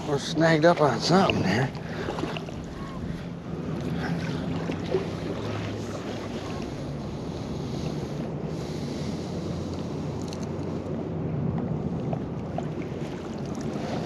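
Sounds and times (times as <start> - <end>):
water lapping in river: 0.0 - 14.0
wind buffeting microphone: 0.0 - 14.0.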